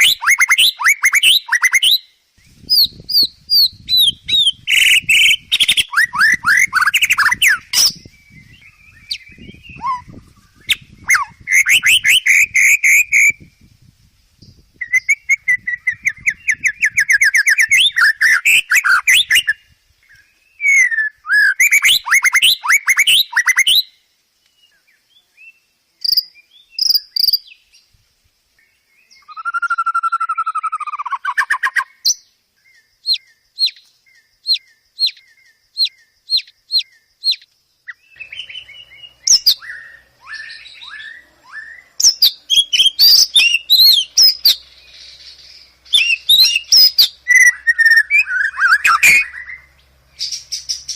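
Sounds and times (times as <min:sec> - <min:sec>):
songbird chirping rapidly: 0:00.0 - 0:50.9.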